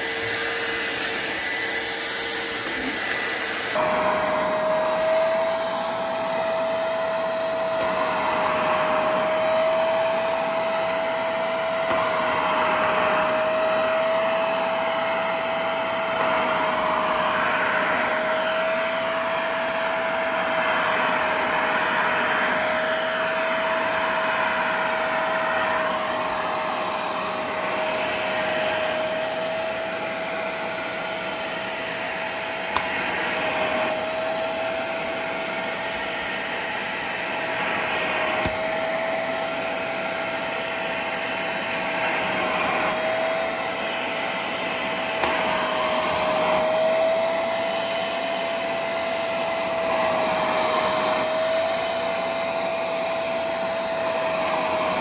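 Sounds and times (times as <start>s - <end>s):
carpet extractor motor whine: 0.0s - 55.0s.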